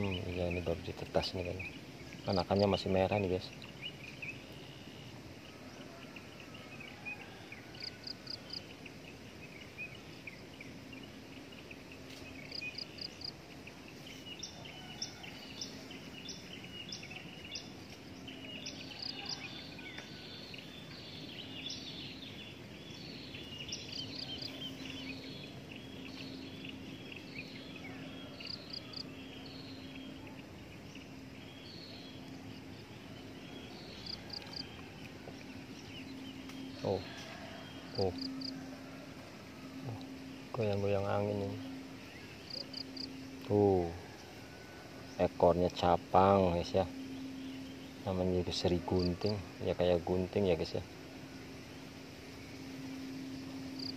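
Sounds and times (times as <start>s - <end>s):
birds calling: 0.0s - 53.9s
faint low hum: 0.0s - 53.9s
insects chirring: 0.0s - 53.9s.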